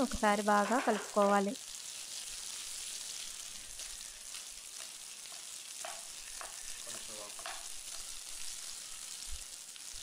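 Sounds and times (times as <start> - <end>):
chicken sizzling in frying pan: 0.0 - 10.0
food scraping in pan: 0.5 - 9.6.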